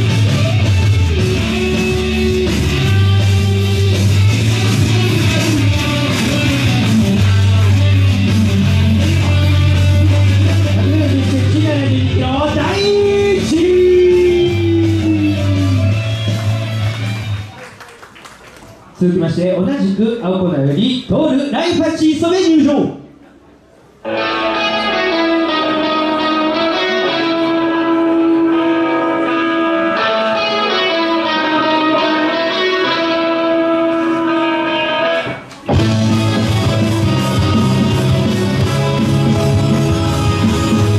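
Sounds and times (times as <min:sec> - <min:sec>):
electric guitar lead: 0:00.0 - 0:17.5, 0:24.0 - 0:40.9.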